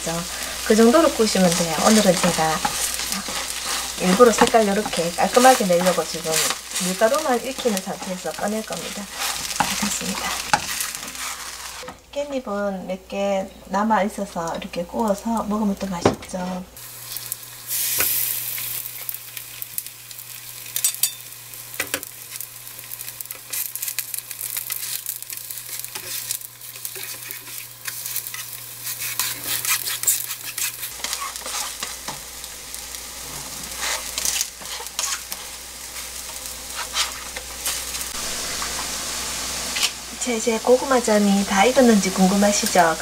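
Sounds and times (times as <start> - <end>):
leaves frying in oil: 0.0 - 13.1, 13.8 - 43.0.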